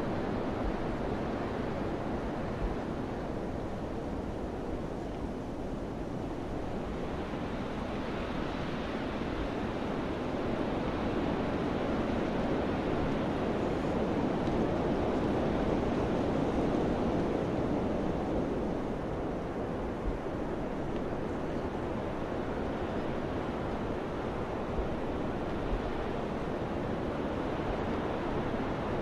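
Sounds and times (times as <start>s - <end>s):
wind blowing in gusts: 0.0s - 29.0s.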